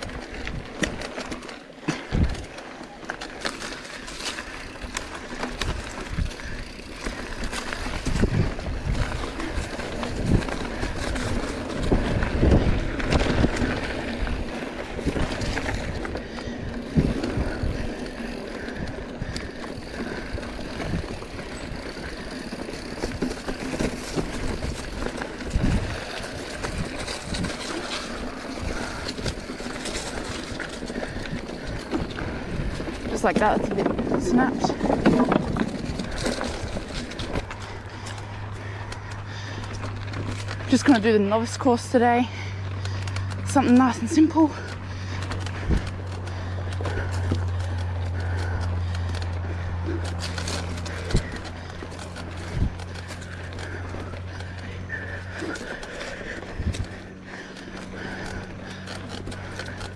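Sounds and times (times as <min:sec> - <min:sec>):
tyre and wind noise: 0:00.0 - 0:41.6, 0:42.6 - 0:59.9
bike knocking and rattling: 0:00.0 - 0:59.9.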